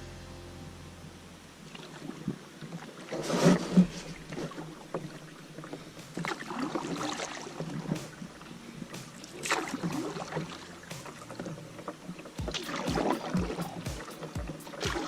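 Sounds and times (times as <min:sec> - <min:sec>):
paddle splashes: 0:01.7 - 0:15.0.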